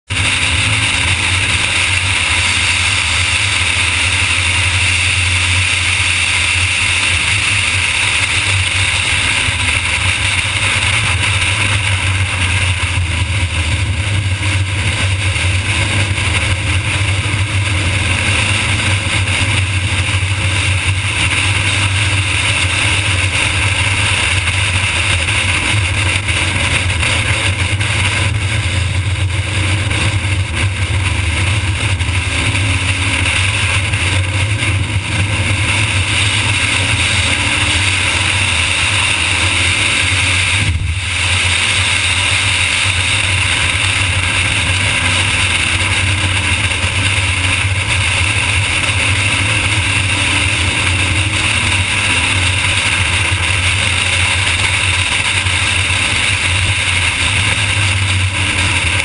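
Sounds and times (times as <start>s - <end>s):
car engine droning: 0.0s - 59.0s
wind noise: 0.1s - 59.0s.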